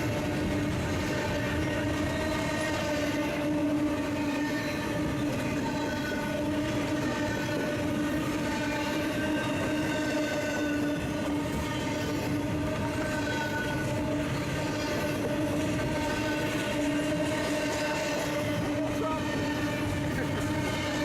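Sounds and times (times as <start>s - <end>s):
freight train rumbling by: 0.0s - 21.0s.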